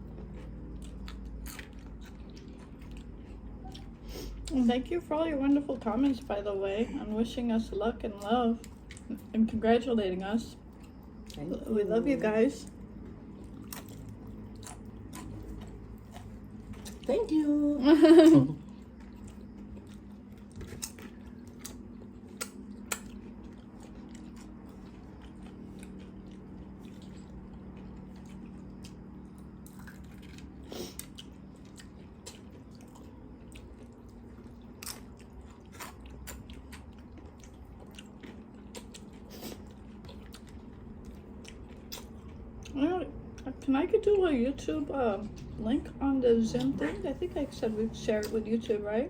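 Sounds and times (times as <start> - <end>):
chewing and crunching food: 0.0 - 49.0
faint low hum: 0.0 - 49.0.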